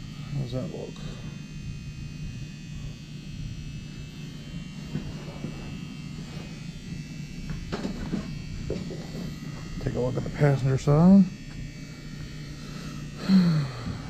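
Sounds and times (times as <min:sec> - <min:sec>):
electrical buzz and hum: 0:00.0 - 0:14.0
thin high whine: 0:00.0 - 0:14.0.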